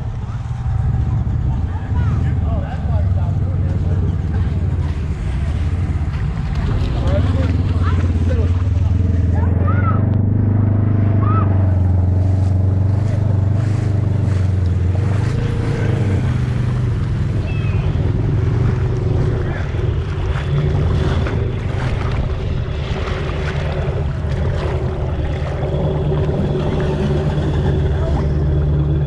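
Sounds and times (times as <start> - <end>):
atv engine running: 0.0 - 29.0
water rushing and sloshing: 0.0 - 29.0.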